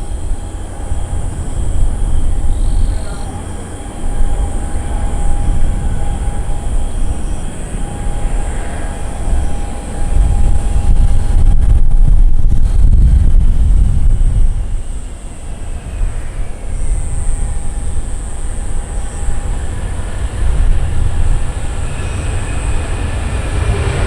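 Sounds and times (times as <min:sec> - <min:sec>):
jet engines running: 0:00.0 - 0:24.0.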